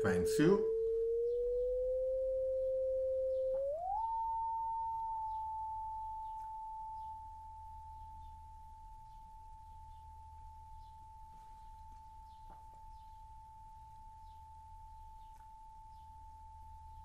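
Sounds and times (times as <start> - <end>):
pure sine tone sliding up: 0.0 - 17.0.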